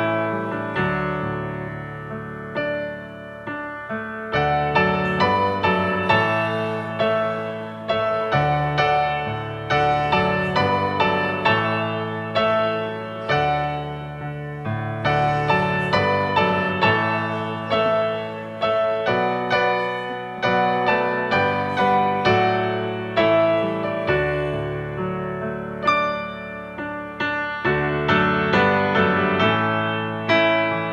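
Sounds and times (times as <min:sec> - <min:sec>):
solo piano playing slow music: 0:00.0 - 0:30.9.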